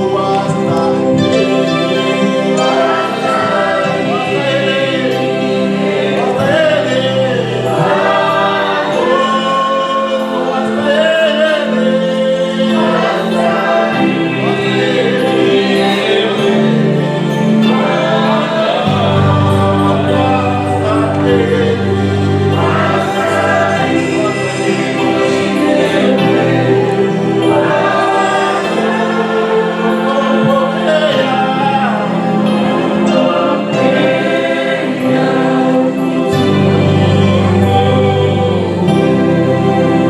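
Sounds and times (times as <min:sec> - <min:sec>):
choir singing gospel: 0:00.0 - 0:40.0
instrumental backing: 0:00.0 - 0:40.0.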